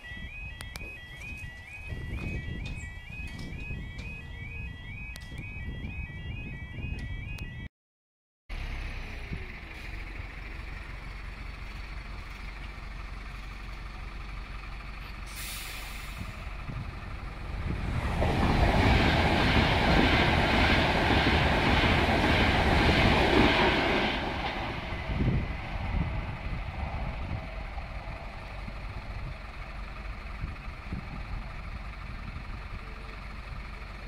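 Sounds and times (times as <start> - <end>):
train wheel and rail rumble: 0.0 - 7.6, 8.6 - 34.0.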